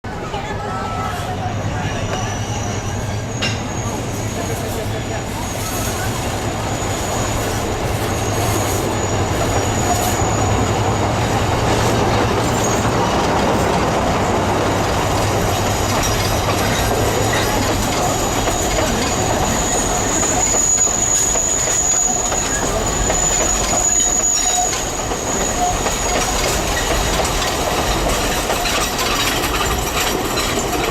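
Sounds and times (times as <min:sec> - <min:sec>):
diesel locomotive engine humming: 0:00.0 - 0:30.9
wheel squeal: 0:01.8 - 0:30.9.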